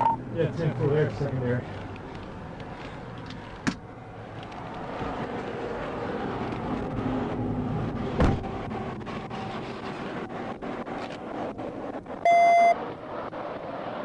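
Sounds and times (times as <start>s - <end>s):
heavy traffic rumble: 0.0s - 14.0s
semi-truck passing: 0.0s - 14.0s.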